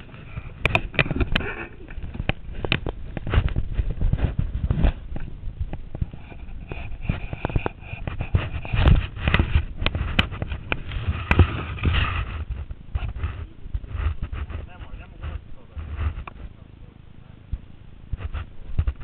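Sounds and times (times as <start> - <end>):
fabric rubbing on microphone: 0.0 - 16.8, 18.0 - 19.0.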